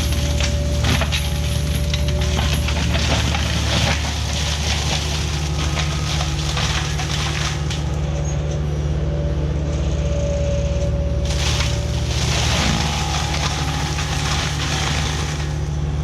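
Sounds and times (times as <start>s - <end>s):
mulcher grinding wood: 0.0s - 8.6s, 11.2s - 16.0s
diesel excavator engine drone: 0.0s - 16.0s.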